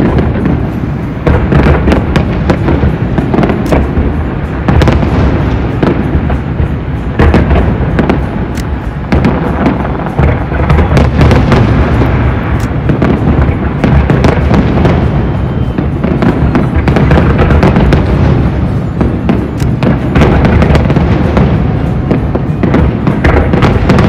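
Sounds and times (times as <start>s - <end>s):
fireworks booming: 0.0s - 24.0s
fireworks cracks and pops: 0.0s - 24.0s.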